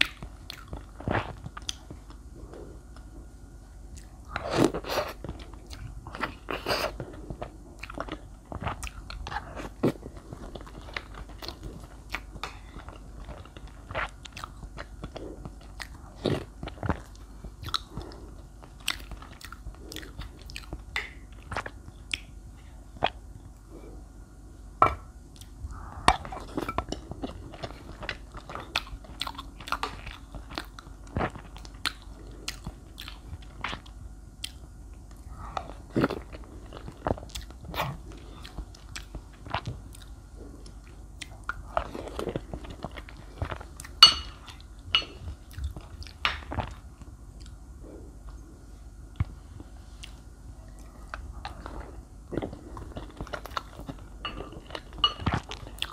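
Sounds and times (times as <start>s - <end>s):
chewing soft cake: 0.0s - 55.9s.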